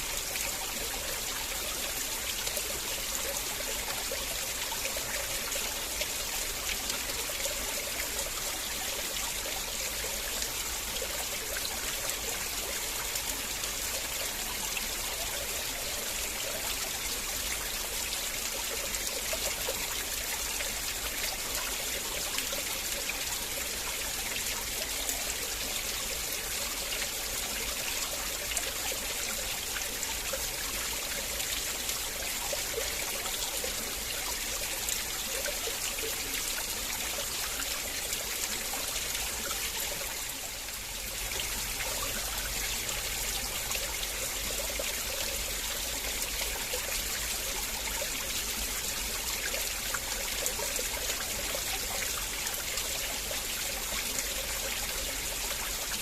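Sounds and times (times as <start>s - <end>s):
river water flowing over stones: 0.0s - 56.0s.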